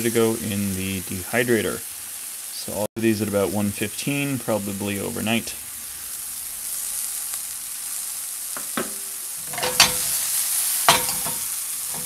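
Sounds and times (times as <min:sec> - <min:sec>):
mushrooms sizzling in skillet: 0:00.0 - 0:12.0.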